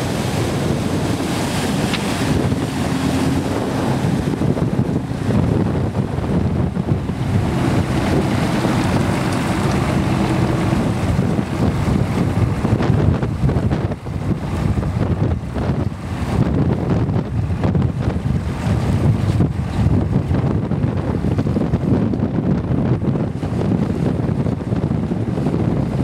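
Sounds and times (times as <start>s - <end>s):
boat engines: 0.0s - 26.0s
choppy water: 0.0s - 26.0s
wind buffeting microphone: 0.0s - 26.0s.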